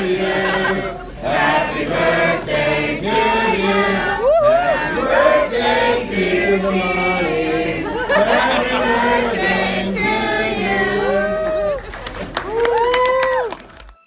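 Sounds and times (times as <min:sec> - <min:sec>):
voices singing together: 0:00.0 - 0:12.4.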